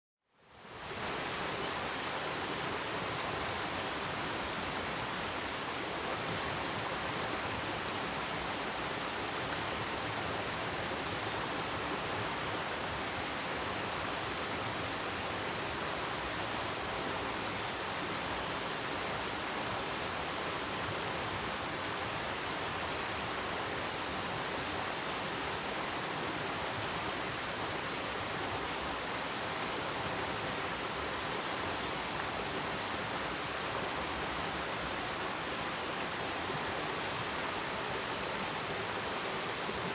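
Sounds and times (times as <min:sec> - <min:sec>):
stream water rushing: 0:00.4 - 0:39.9.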